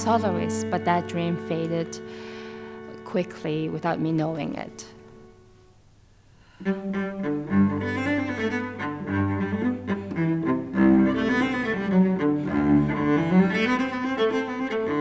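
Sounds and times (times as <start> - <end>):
cello bowed melody: 0.0 - 5.7, 6.6 - 15.0.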